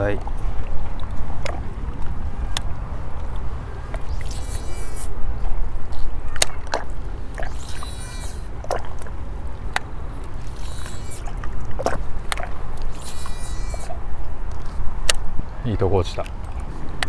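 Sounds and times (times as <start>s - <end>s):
water lapping: 0.0s - 14.9s.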